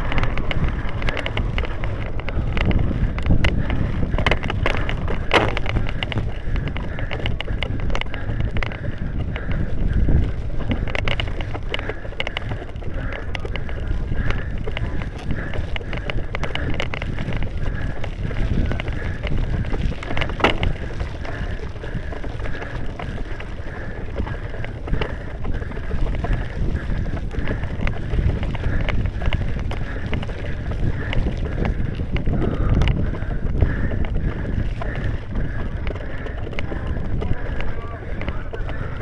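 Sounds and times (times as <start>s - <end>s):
bike rattling clicks and knocks: 0.0s - 39.0s
bike rumbling on rough ground: 0.0s - 39.0s
wind buffeting microphone: 0.0s - 39.0s.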